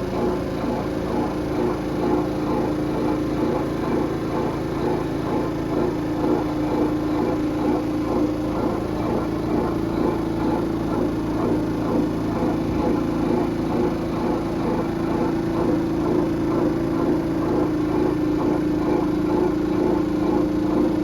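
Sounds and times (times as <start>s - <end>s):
spin dryer motor hum: 0.0s - 21.0s.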